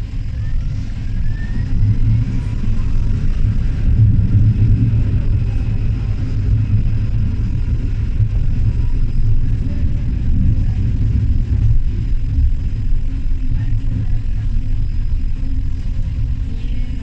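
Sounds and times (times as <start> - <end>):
tram motor whine: 0.0 - 17.0
tram wheels rumbling: 0.0 - 17.0.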